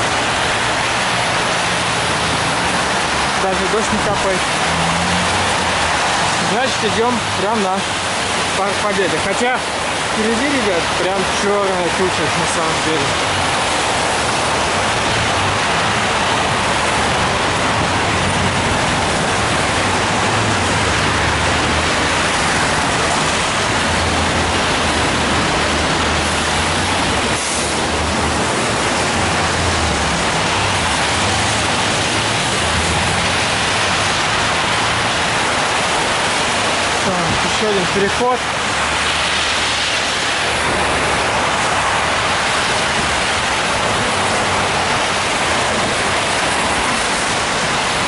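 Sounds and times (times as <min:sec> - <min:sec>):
low rumble of engines: 0:00.0 - 0:48.0
tyres swishing on wet road: 0:00.0 - 0:48.0.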